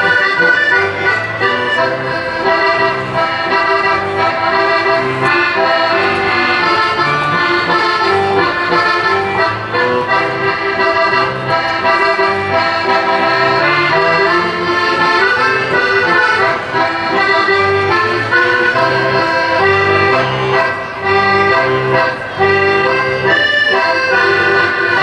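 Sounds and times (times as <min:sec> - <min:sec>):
accordion playing folk-dance tune: 0:00.0 - 0:25.0.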